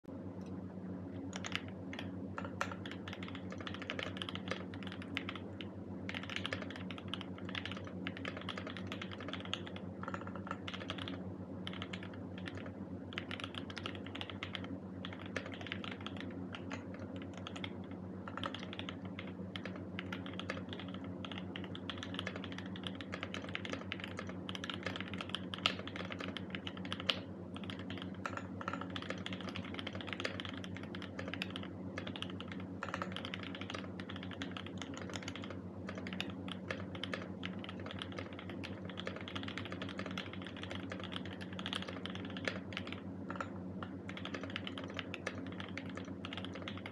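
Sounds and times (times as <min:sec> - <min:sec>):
mechanical keyboard typing: 0:01.3 - 0:46.9.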